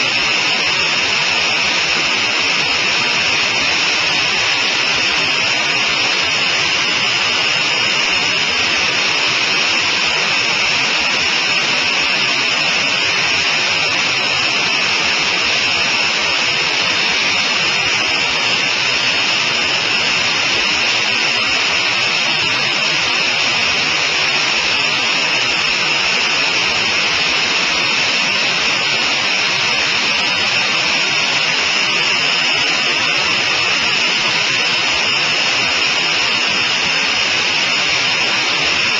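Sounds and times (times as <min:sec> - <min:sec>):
aircraft cockpit engine and air noise: 0:00.0 - 0:38.9.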